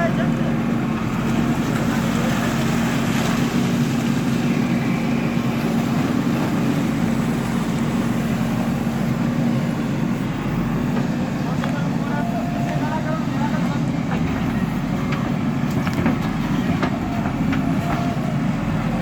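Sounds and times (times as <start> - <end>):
earthmover diesel engine running: 0.0 - 19.0.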